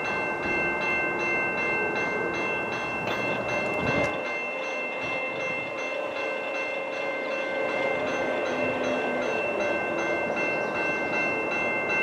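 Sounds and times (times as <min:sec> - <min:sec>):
level-crossing warning bell: 0:00.0 - 0:12.0.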